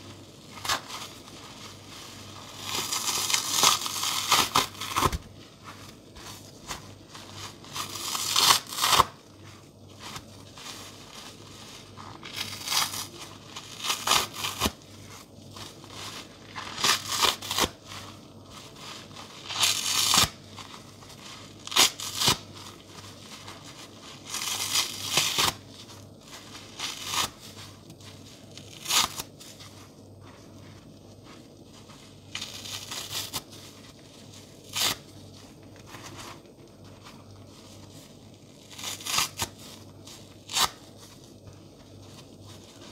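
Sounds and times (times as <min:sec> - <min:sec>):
wet sponge tearing: 0:00.0 - 0:41.3.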